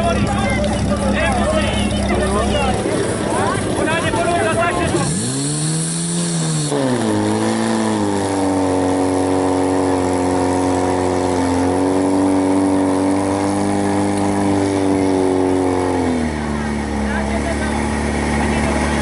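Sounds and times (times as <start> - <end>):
pump engine revving: 0.0 - 19.0.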